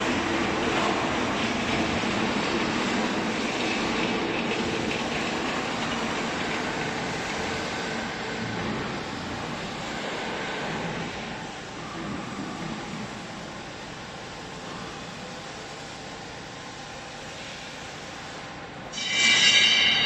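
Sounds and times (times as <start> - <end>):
hydraulic baler running: 0.0 - 16.2.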